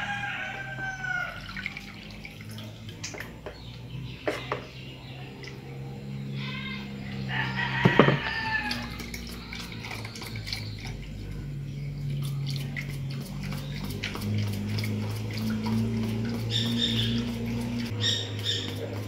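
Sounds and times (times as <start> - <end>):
water trickling through sieve: 0.0 - 4.0, 7.2 - 19.0
low hum: 1.3 - 19.0.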